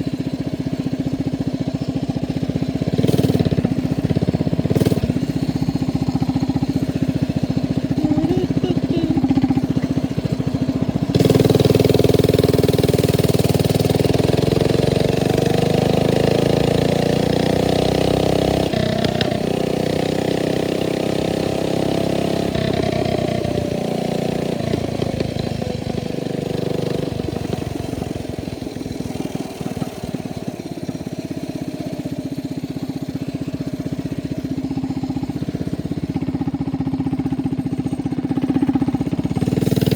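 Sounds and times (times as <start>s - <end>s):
mini bike engine: 0.0s - 39.9s.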